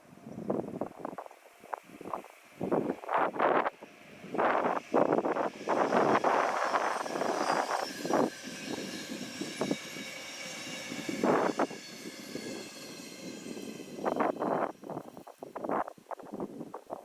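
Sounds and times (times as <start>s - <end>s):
train hum with high whine: 0.0s - 17.0s
wind gusts on microphone: 0.2s - 17.0s.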